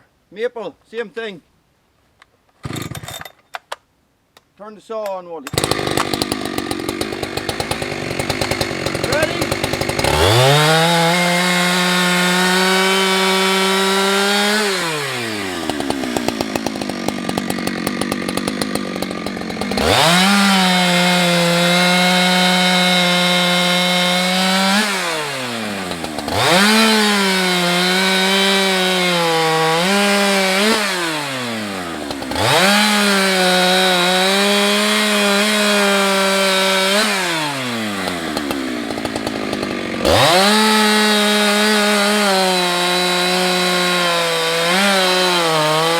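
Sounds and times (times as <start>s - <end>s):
chainsaw cutting wood: 2.5s - 3.4s, 5.5s - 45.9s.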